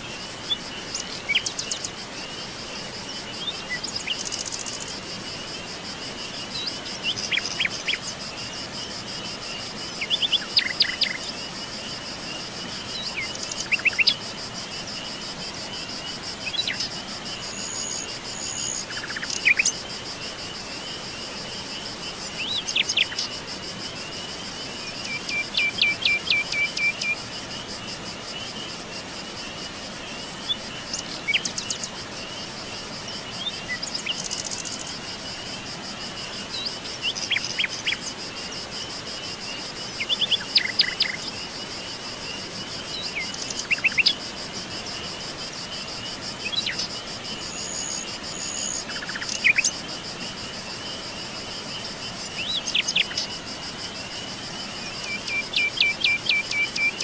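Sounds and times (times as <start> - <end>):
insect trill: 0.0 - 57.0.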